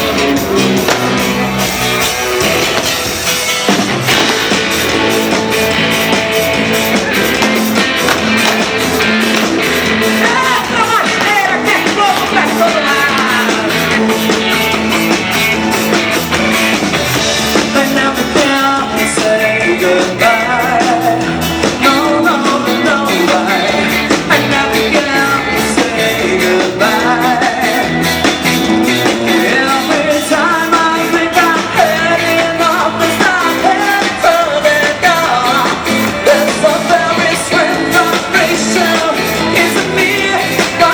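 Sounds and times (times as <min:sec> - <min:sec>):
fast drum beat: 0:00.0 - 0:40.9
live rock band over loudspeakers: 0:00.0 - 0:40.9.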